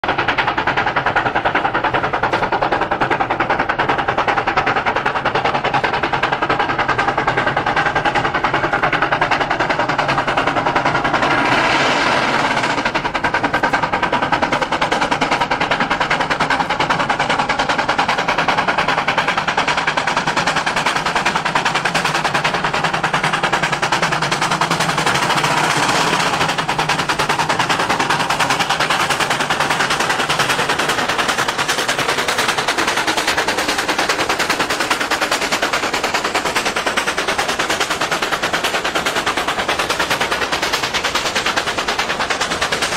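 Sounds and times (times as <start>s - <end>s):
steam locomotive chuffing: 0.0s - 42.9s.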